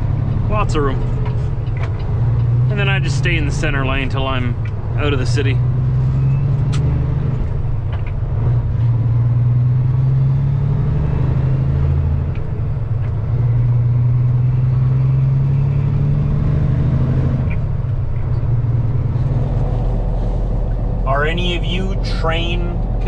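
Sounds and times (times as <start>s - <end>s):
truck diesel engine droning: 0.0s - 23.0s.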